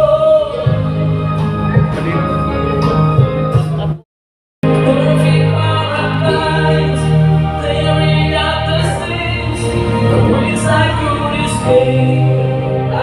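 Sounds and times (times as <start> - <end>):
backing track music: 0.0 - 4.0, 4.6 - 13.0.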